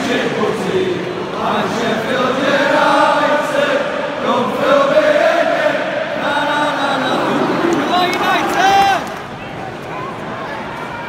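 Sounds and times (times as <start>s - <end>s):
stadium crowd chanting: 0.0s - 11.0s.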